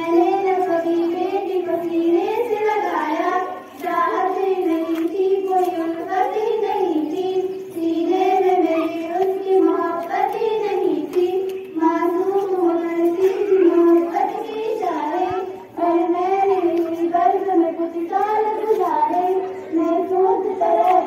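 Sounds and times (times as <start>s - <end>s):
girls singing together: 0.0s - 21.0s.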